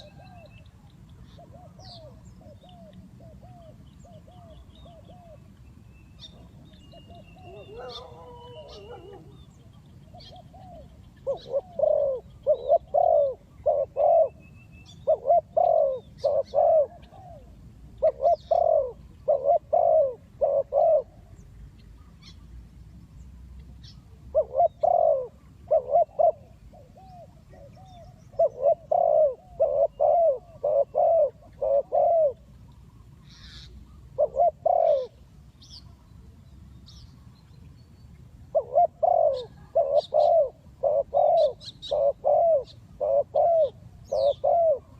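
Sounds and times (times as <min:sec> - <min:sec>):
dove cooing: 0:00.0 - 0:05.5, 0:06.2 - 0:21.4, 0:24.2 - 0:35.2, 0:38.5 - 0:44.9
small birds chirping: 0:00.0 - 0:20.0, 0:20.6 - 0:44.9.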